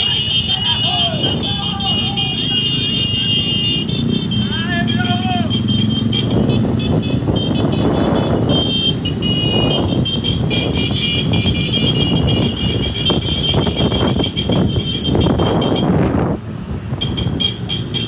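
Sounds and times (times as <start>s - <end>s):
motorcycle engines in a group: 0.0s - 18.0s.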